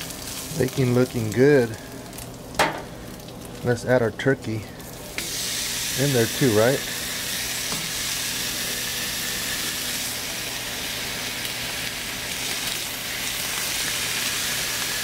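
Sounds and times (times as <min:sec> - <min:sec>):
meat sizzling on a griddle: 0:00.0 - 0:03.6, 0:04.8 - 0:15.0.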